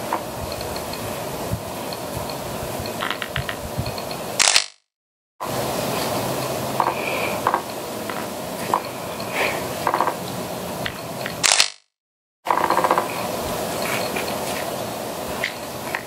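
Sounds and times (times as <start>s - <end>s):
outdoor background hiss: 0.0s - 4.6s, 5.4s - 11.6s, 12.5s - 16.0s.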